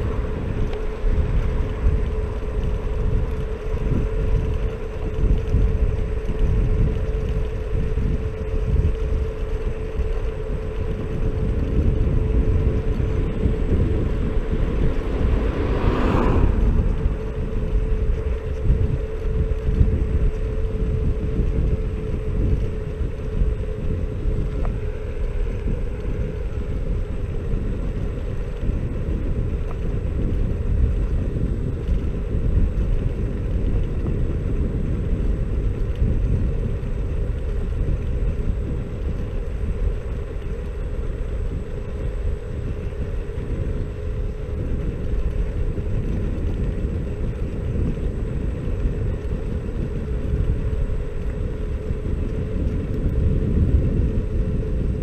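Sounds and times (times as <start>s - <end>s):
thin steady whine: 0.0s - 55.0s
tyre and wind rumble: 0.0s - 55.0s.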